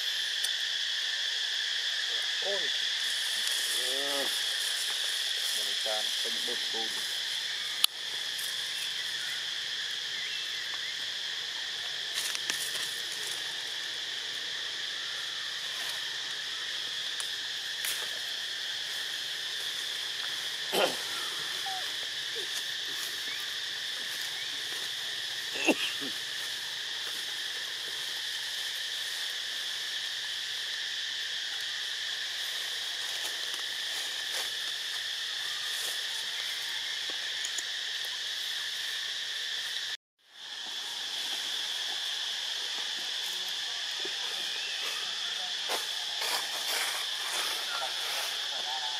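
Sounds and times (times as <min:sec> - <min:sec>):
insect chorus drone: 0:00.0 - 0:48.9.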